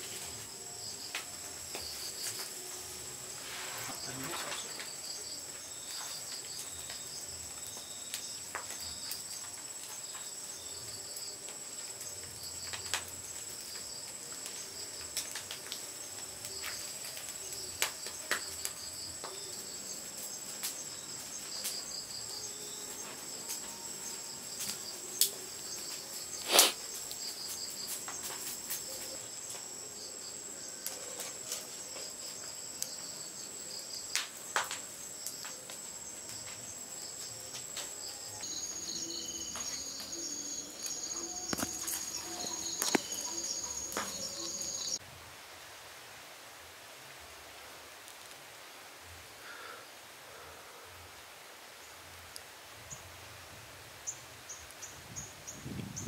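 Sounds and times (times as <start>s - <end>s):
insects chirping: 0.0s - 45.0s, 51.4s - 56.0s.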